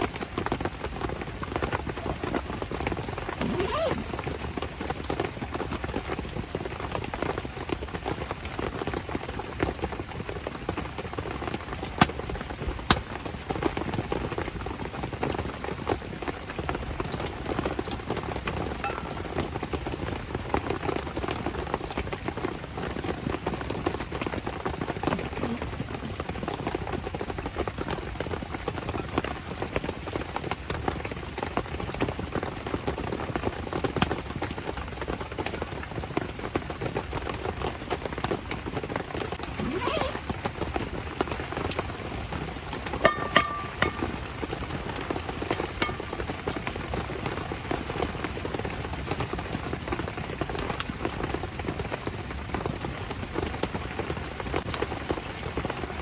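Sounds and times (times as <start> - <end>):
rain pattering: 0.0 - 39.6, 40.2 - 43.2, 43.8 - 56.0.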